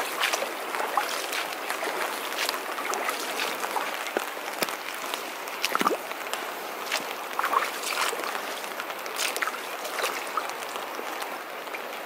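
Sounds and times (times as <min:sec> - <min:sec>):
boots splashing through shallow water: 0:00.0 - 0:11.8
river water rushing: 0:00.0 - 0:12.0.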